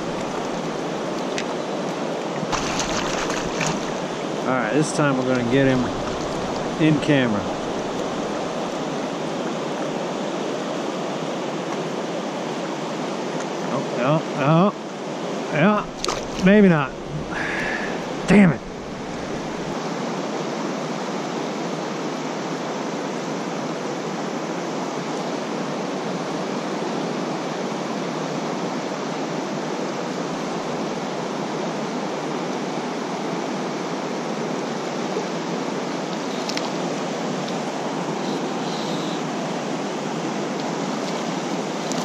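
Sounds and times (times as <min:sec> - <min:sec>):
river current rushing: 0:00.0 - 0:42.0.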